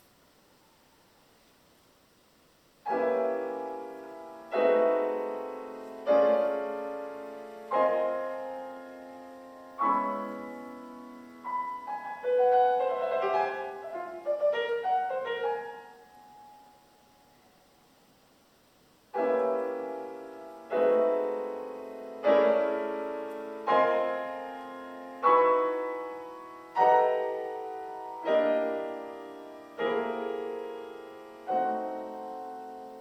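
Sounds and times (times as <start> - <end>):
loud piano chords: 2.8 - 17.8, 19.0 - 33.0.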